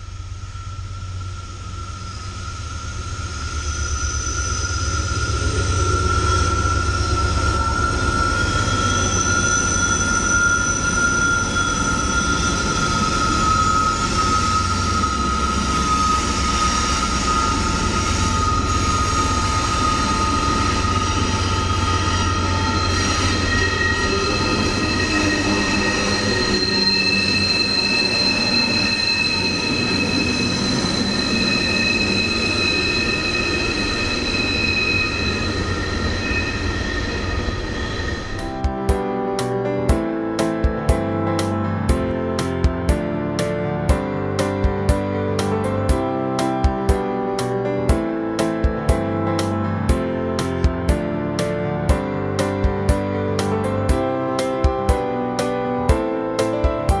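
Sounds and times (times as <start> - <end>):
diesel locomotive rumble: 0.0 - 57.0
train wheels squealing: 0.0 - 57.0.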